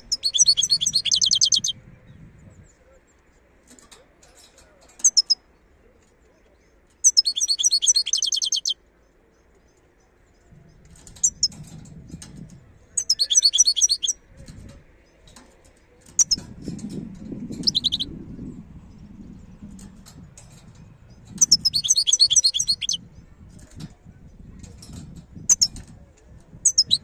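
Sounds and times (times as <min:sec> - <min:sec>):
goldfinch twittering song: 0:00.0 - 0:02.3, 0:05.0 - 0:05.4, 0:06.6 - 0:27.0.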